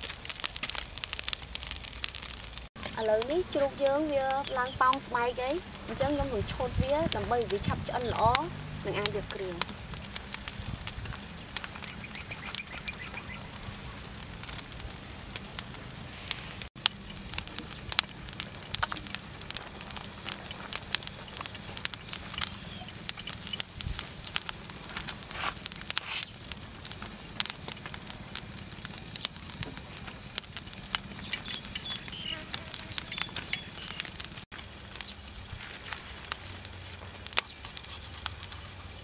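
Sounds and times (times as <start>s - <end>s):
charcoal fire crackling and popping: 0.0s - 39.0s.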